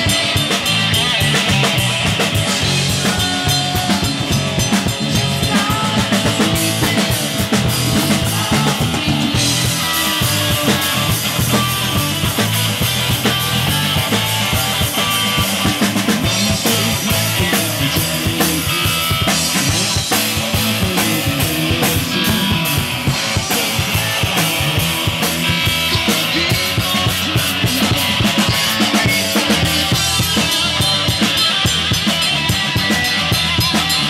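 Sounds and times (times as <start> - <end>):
drum kit fast steady beat: 0.0 - 34.0
live rock band playing: 0.0 - 34.0.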